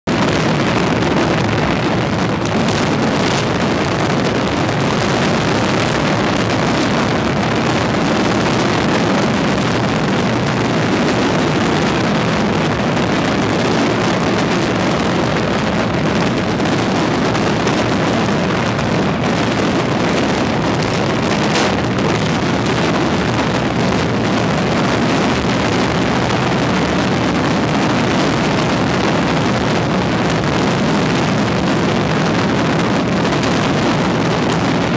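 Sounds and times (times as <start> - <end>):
fireworks rumbling barrage: 0.0 - 34.9
sharp firework cracks: 0.1 - 34.9.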